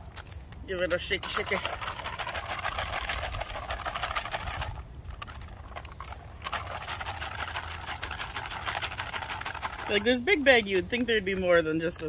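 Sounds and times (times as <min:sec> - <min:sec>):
drink bag shaken sloshing: 0:00.7 - 0:11.4.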